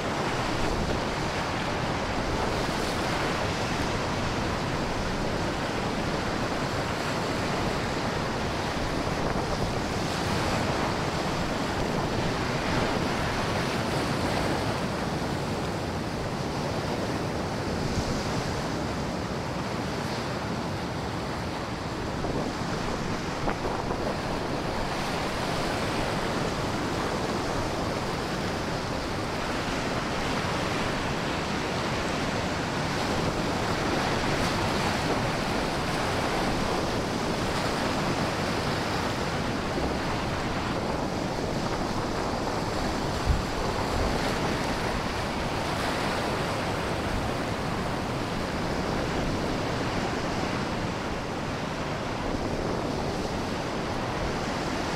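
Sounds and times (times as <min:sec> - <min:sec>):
strong wind: 0:00.0 - 0:54.9
surf breaking on rocky shore: 0:00.0 - 0:54.9.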